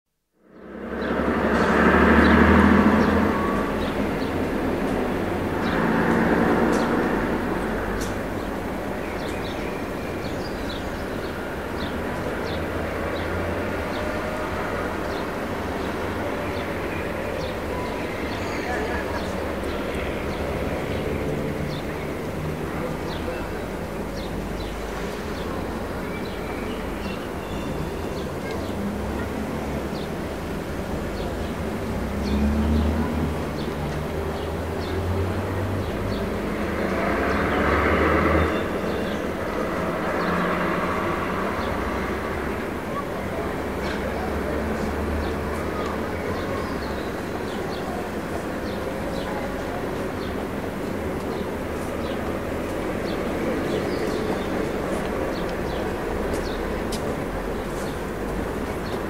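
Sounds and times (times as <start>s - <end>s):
distant traffic rumble: 0.4s - 59.0s
birds chirping: 2.2s - 59.0s.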